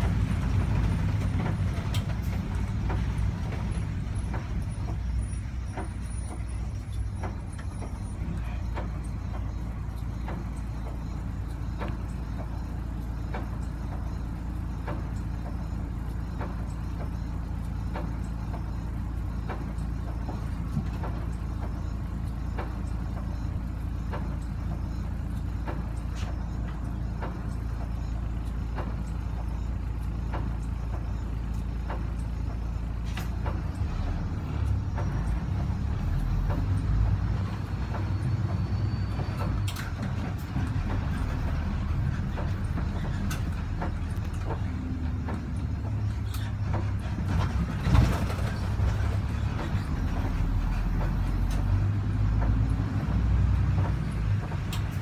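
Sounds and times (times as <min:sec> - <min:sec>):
bus diesel engine idling: 0:00.0 - 0:55.0
light regular ticking: 0:00.0 - 0:55.0.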